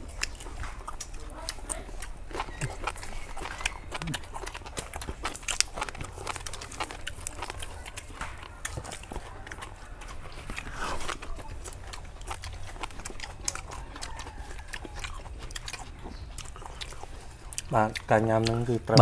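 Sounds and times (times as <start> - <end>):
wet mouth chewing clicks: 0.0 - 19.0.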